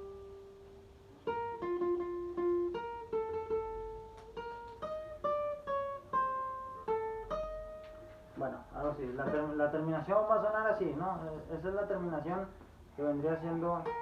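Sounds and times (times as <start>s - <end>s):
guitar picking circus tune: 0.0s - 14.0s.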